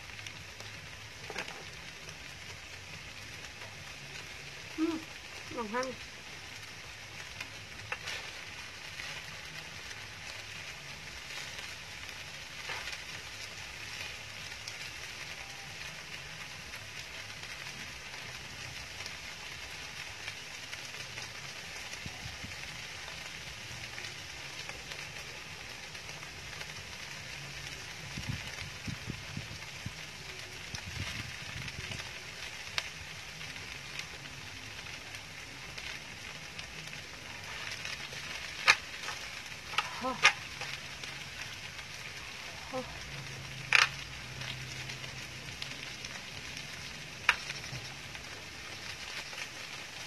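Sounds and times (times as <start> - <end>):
food sizzling on a grill pan: 0.0 - 50.0.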